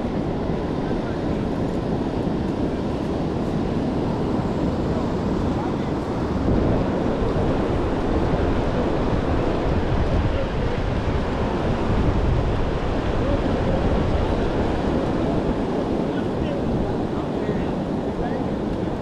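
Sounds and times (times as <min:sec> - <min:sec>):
surf washing on beach: 0:00.0 - 0:19.0
wind buffeting microphone: 0:00.0 - 0:19.0.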